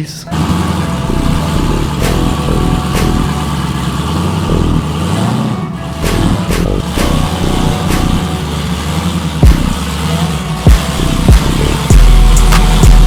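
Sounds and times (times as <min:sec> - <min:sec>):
car engine revving: 0:00.0 - 0:13.0
sharp exhaust cracks: 0:00.0 - 0:13.0.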